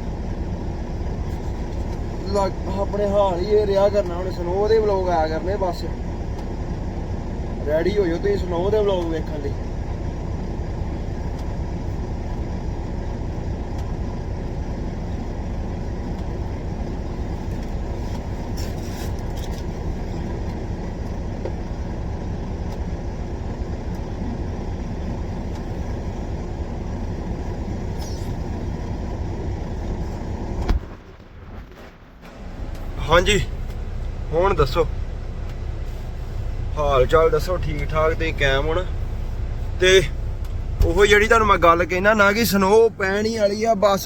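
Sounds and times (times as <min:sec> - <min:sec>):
vehicle engine rumble: 0:00.0 - 0:44.0.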